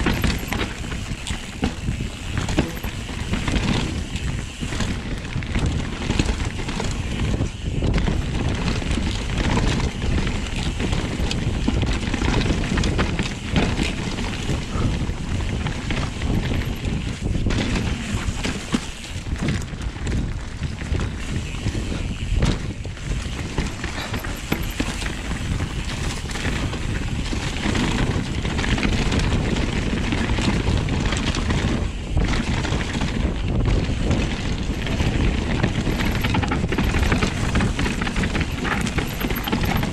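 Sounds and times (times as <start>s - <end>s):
bike knocks and rattles: 0.0s - 39.9s
tyres rolling over dirt: 0.0s - 39.9s
wind noise on microphone: 0.0s - 39.9s.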